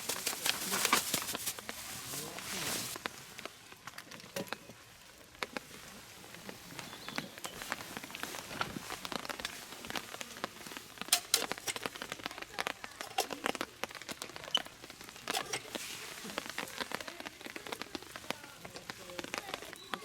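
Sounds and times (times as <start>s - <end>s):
rain pattering: 0.0s - 20.0s.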